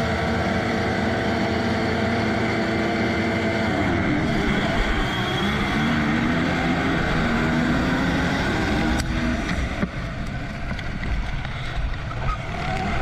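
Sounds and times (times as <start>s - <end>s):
motocross bike engine at full throttle: 0.0s - 13.0s
other bikes running: 0.0s - 13.0s.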